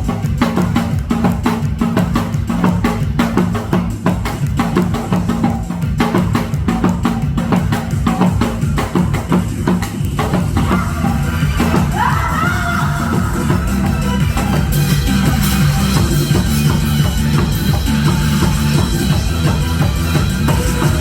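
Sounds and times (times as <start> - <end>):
accompanying music with bass line: 0.0 - 21.0.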